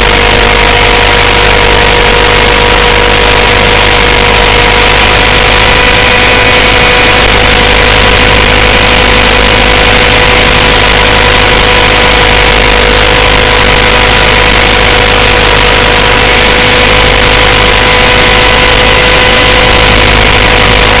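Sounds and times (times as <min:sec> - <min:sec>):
model helicopter engine and rotor: 0:00.0 - 0:21.0.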